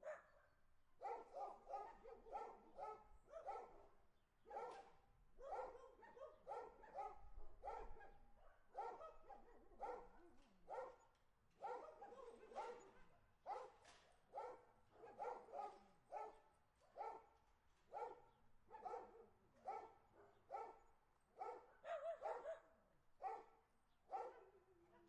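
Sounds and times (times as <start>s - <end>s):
dog barking: 0.0s - 25.0s.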